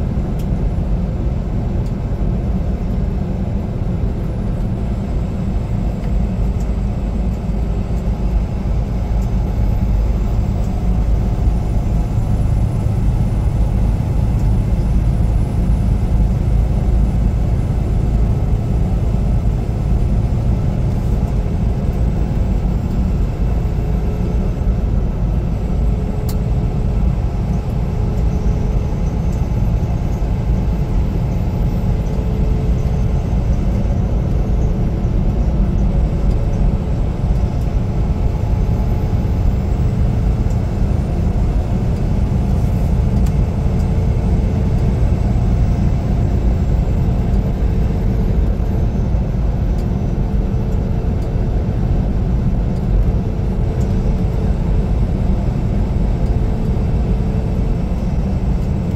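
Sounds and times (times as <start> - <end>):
truck engine and road rumble: 0.0 - 58.9.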